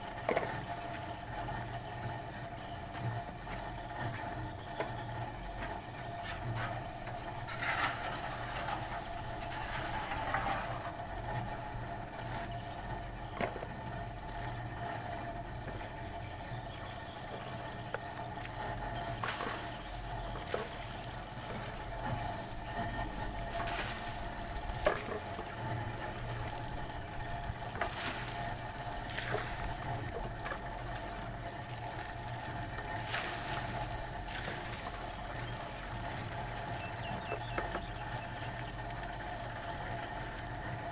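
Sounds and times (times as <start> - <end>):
steady mechanical hum: 0.0 - 40.9.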